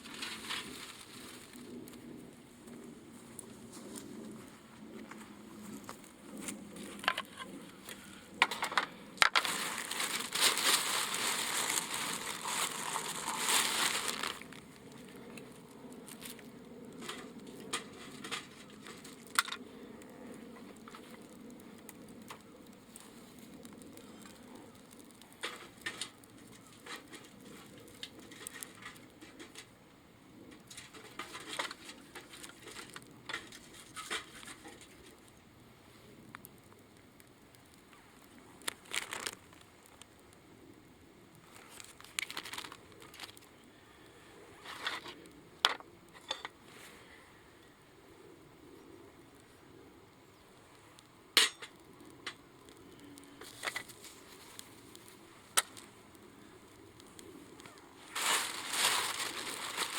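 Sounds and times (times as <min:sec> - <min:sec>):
crinkling rustling noise: 0:00.0 - 0:40.7, 0:41.3 - 0:43.7, 0:44.4 - 0:47.0, 0:50.3 - 0:59.9
wood fire crackling and popping: 0:00.0 - 0:59.9.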